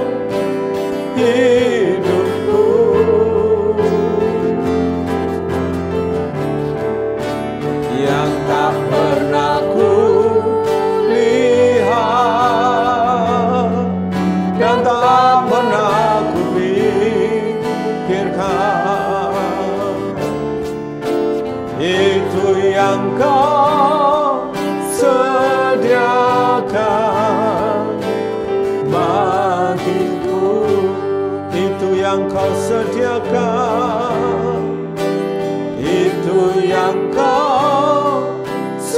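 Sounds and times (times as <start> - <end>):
person singing with vibrato: 0.0 - 6.0, 7.6 - 38.9
acoustic guitar: 0.0 - 38.9.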